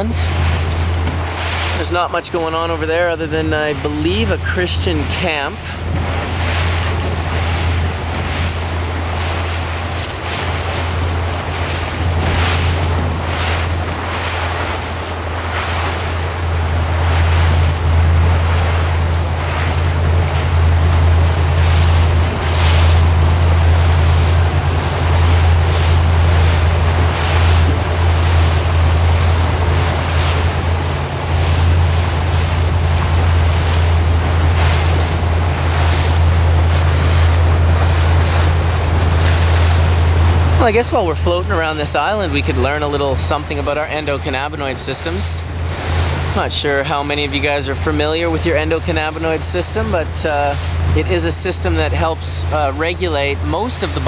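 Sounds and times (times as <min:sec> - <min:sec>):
motorboat engine droning: 0:00.0 - 0:54.0
water washing against hull: 0:00.0 - 0:54.0
wind gusting over microphone: 0:00.0 - 0:54.0.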